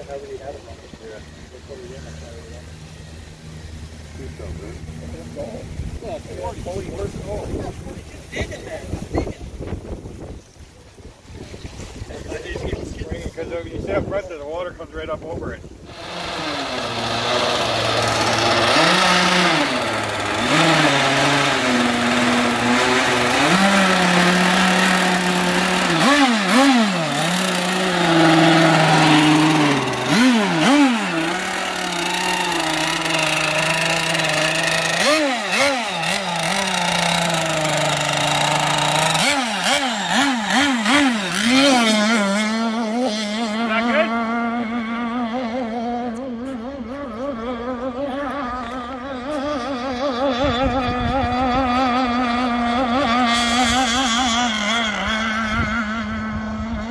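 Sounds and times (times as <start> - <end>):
model boat engine revving: 0.0 - 8.6, 12.5 - 56.9.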